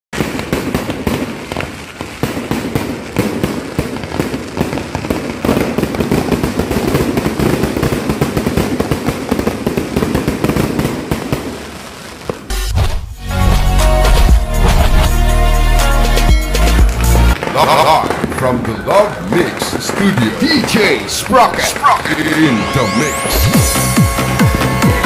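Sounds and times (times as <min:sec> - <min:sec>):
fireworks popping and crackling: 0:00.1 - 0:15.2, 0:16.8 - 0:25.0.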